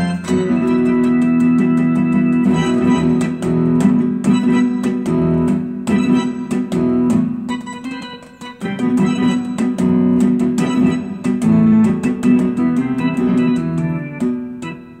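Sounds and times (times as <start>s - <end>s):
electronic keyboard playing: 0.0s - 15.0s.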